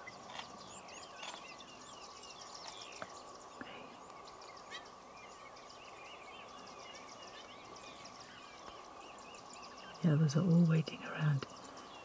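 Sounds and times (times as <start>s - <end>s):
small birds chirping and trilling: 0.0s - 12.0s.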